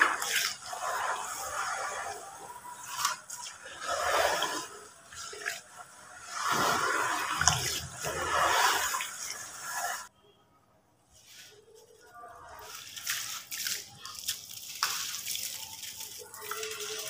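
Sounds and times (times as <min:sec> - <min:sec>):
water sloshing in a bucket: 0:00.0 - 0:10.1, 0:12.5 - 0:17.0.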